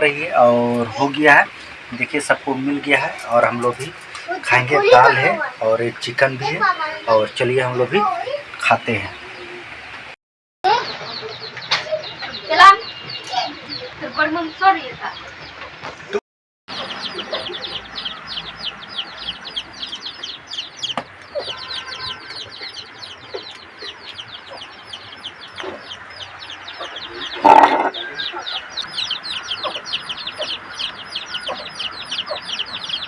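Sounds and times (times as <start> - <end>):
chicks peeping: 0.0 - 10.1, 10.7 - 16.0, 16.7 - 33.0.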